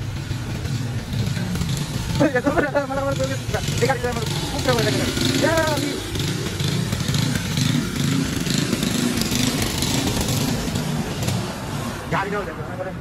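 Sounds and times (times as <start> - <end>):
vehicle engine drone: 0.0 - 13.0
wind and road noise: 0.0 - 13.0.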